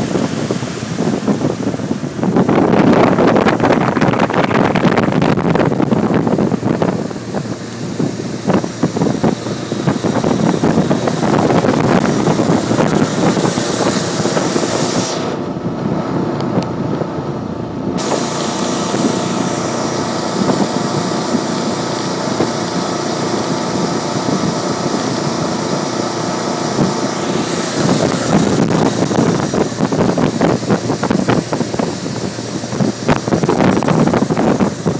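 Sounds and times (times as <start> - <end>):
boat engine running: 0.0 - 34.9
rush of churning wake: 0.0 - 34.9
wind buffeting microphone: 0.0 - 34.9.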